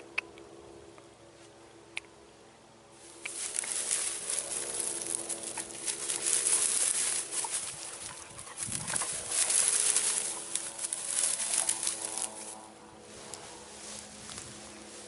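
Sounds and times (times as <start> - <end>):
faint low hum: 0.0 - 15.0
footsteps through long grass: 2.9 - 15.0.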